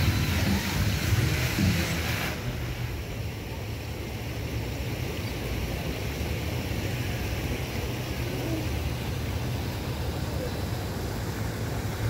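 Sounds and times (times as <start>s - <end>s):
constant low rumble: 0.0s - 12.0s.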